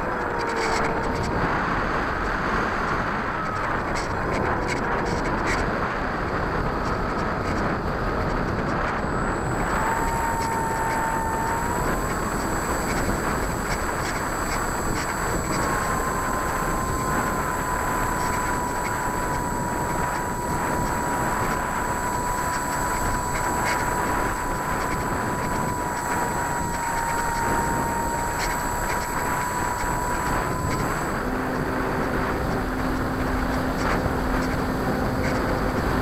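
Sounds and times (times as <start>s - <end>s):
model airplane motor whine: 0.0s - 36.0s.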